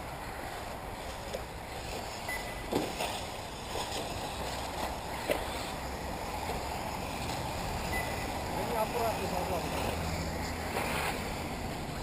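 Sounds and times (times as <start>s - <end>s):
rc car motors and tyres whirring: 0.0s - 12.0s.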